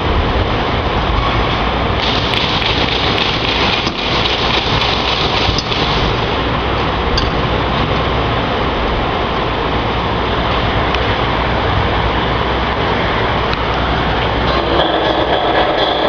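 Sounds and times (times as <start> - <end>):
roaster machine rushing noise: 0.0 - 16.0.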